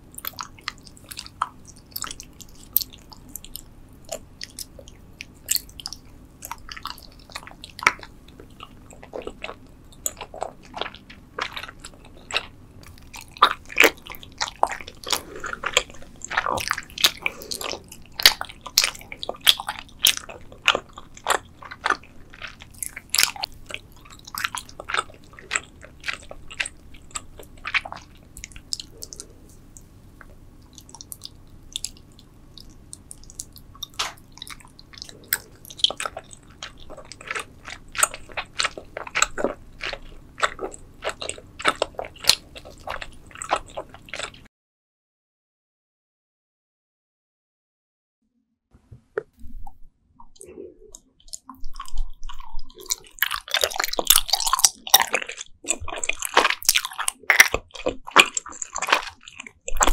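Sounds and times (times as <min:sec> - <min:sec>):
chewing gummy candy: 0:00.0 - 0:44.5, 0:49.4 - 0:59.9.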